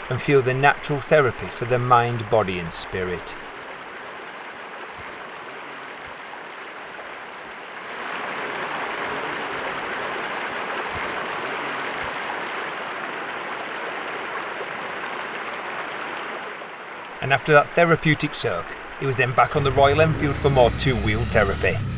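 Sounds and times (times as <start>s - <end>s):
flowing river water: 0.0s - 21.9s.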